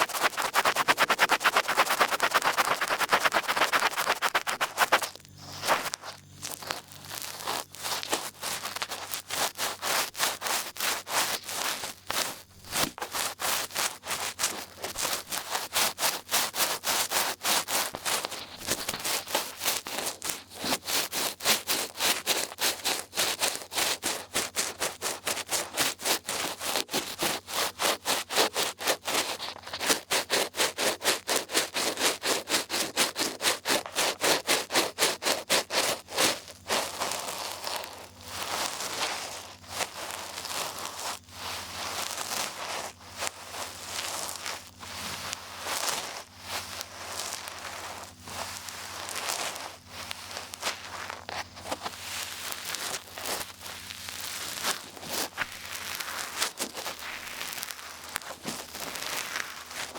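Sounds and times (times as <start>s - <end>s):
ear pick scraping and rubbing: 0.0s - 59.9s.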